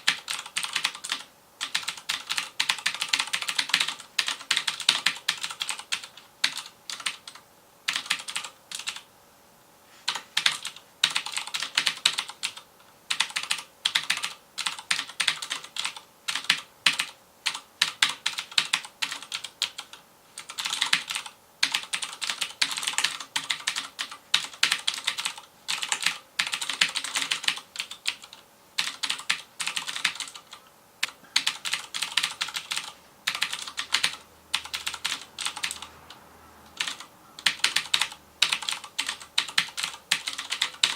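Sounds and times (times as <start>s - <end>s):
mechanical keyboard clicking: 0.1s - 9.0s, 10.1s - 35.9s, 36.8s - 40.9s.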